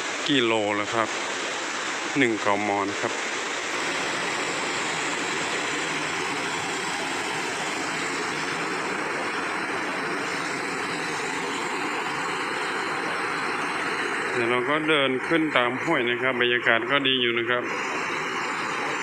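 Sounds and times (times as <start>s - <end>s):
mountain stream rushing: 0.0s - 16.1s, 17.6s - 19.0s.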